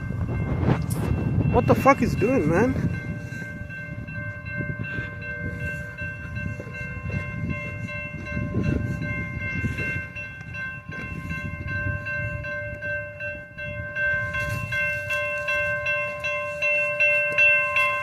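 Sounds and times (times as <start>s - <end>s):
low rumble of railcars: 0.0s - 18.0s.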